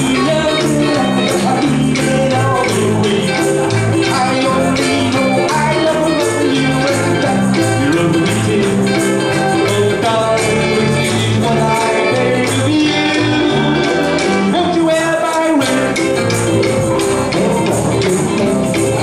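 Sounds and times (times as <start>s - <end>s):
man singing: 0.0s - 19.0s
rock and roll band playing: 0.0s - 19.0s.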